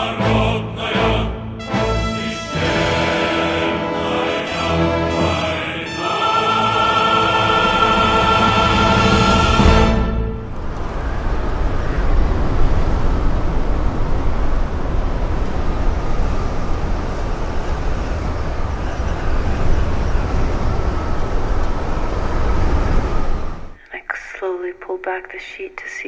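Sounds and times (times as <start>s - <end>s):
loud rumbling noise soundscape: 0.0s - 24.5s.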